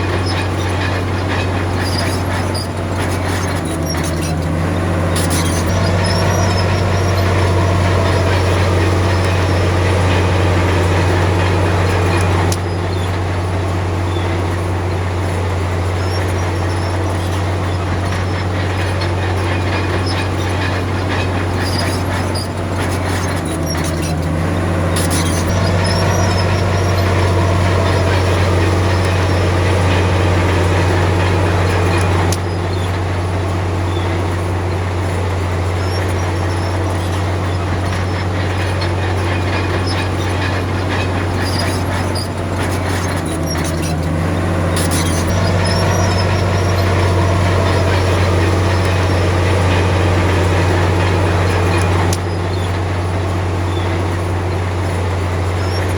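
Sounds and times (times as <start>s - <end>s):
bulldozer diesel engine running: 0.0s - 55.9s
metallic clatter: 0.0s - 55.9s.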